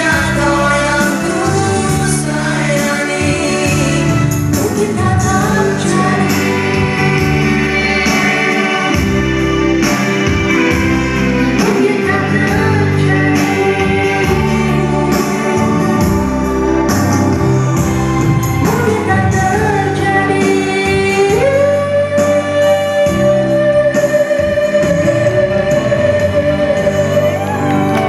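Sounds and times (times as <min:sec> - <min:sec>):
instrumental backing music: 0:00.0 - 0:28.0
man and woman singing duet: 0:00.0 - 0:28.0.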